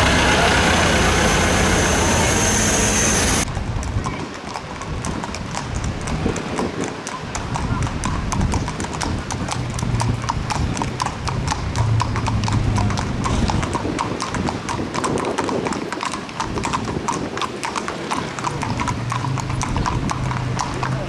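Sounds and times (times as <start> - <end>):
horse hooves on asphalt: 3.4 - 21.0.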